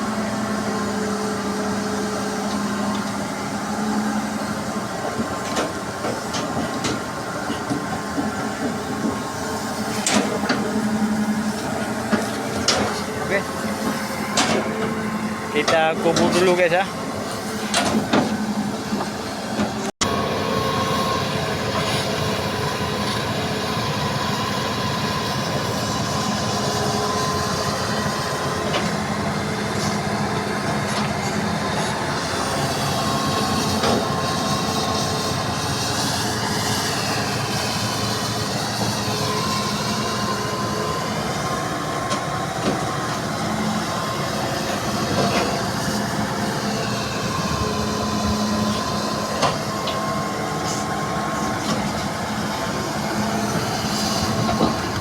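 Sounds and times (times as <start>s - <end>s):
diesel engine under load: 0.0s - 55.0s
hydraulic whine: 0.0s - 55.0s.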